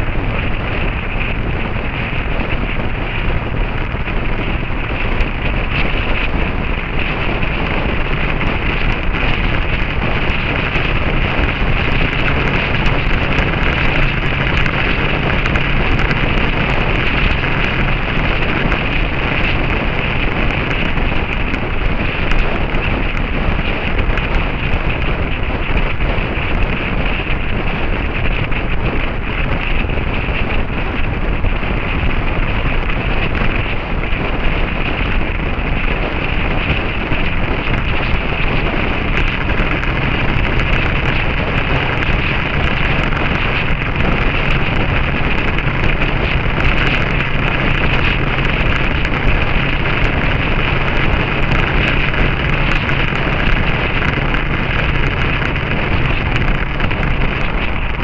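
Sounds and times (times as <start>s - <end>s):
faint motorcycle engine: 0.0s - 58.0s
road noise: 0.0s - 58.0s
wind rush over microphone: 0.0s - 58.0s.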